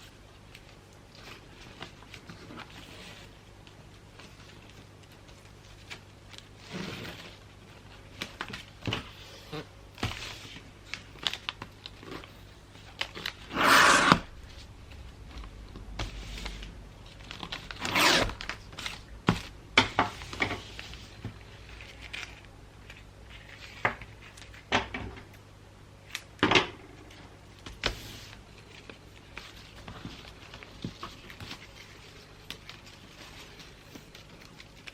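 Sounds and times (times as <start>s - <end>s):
wrapping paper rustling: 0.0s - 19.6s, 20.2s - 24.7s, 27.0s - 34.9s.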